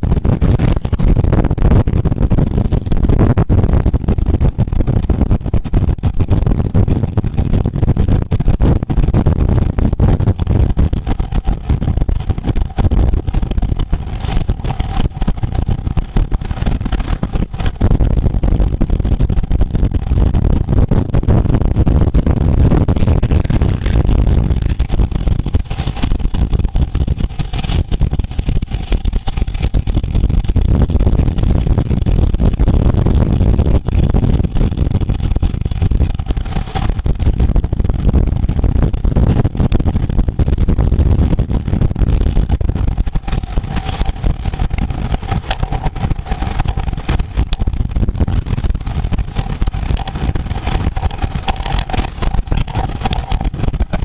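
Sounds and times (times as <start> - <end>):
faint steady hum: 0.0 - 54.0
wind rushing: 0.0 - 54.0.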